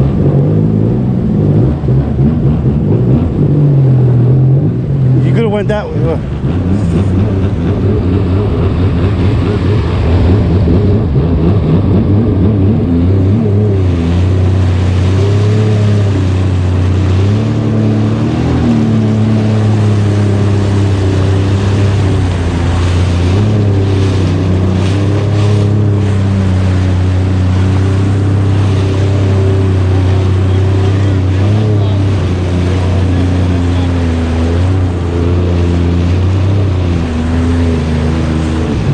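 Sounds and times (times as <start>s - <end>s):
jet ski engine running: 0.0s - 38.9s.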